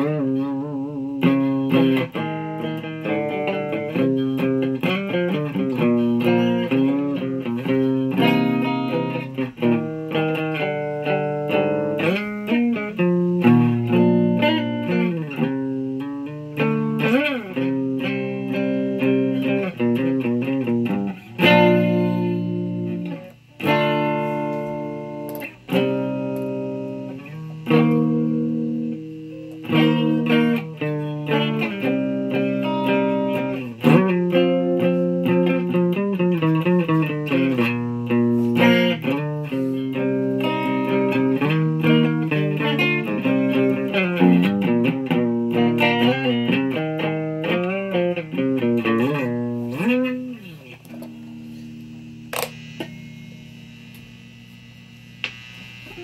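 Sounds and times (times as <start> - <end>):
clean electric guitar: 0.0 - 56.0.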